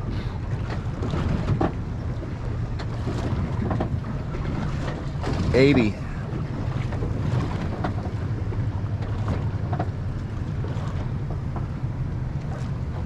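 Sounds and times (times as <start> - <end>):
outboard engines idling: 0.0 - 13.0
water along the hull: 0.0 - 13.0.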